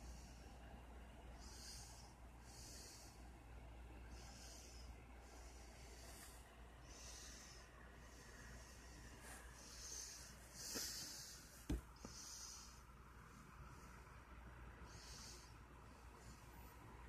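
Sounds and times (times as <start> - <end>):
faint nasal breathing: 0.0 - 17.0
steady low hum: 0.0 - 17.0.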